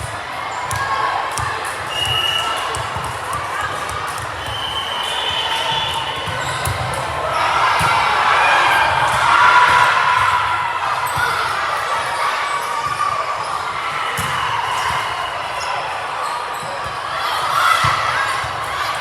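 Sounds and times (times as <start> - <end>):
crowd voices talking and calling: 0.0 - 19.0.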